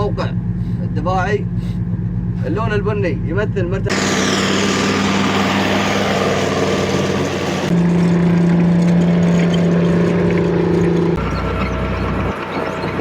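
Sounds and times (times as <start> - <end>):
heavy vehicle engines droning: 0.0 - 13.0.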